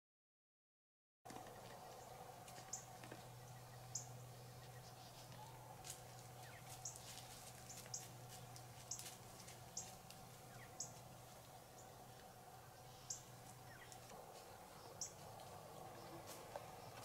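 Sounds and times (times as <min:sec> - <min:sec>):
steady low hum: 0:01.3 - 0:17.0.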